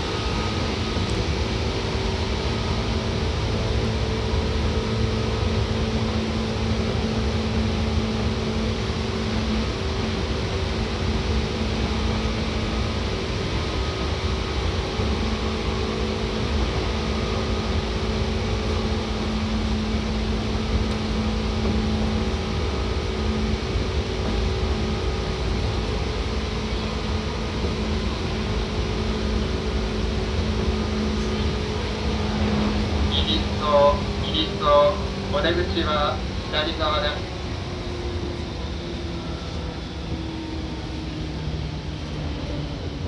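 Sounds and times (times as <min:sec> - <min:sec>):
constant humming tones: 0:00.0 - 0:43.0
train wheels rumbling: 0:00.0 - 0:43.0.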